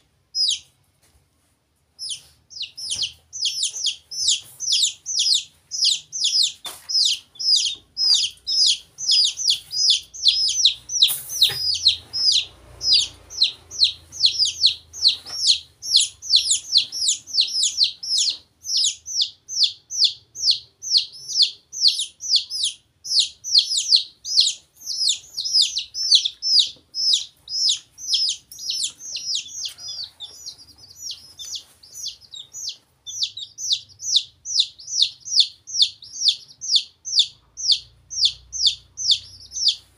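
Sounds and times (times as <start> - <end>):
chicks and duckling peeping: 0.0 - 1.0, 1.9 - 39.9.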